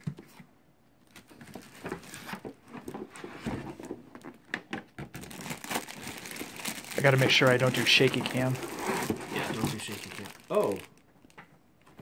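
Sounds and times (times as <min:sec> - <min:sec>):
cardboard and plastic rustling: 0:00.0 - 0:11.4.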